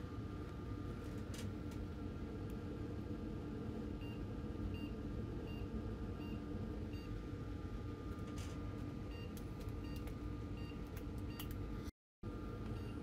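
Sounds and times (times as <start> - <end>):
computer fans humming: 0.0 - 13.0.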